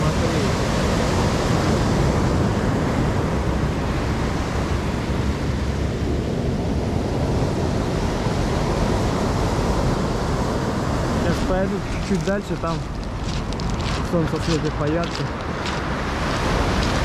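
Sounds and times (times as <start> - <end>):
waves breaking on shingle beach: 0.0 - 5.2, 6.4 - 17.0.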